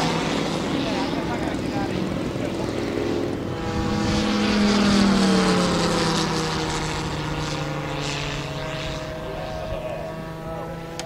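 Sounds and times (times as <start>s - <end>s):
model plane engine passing overhead: 0.0s - 11.0s.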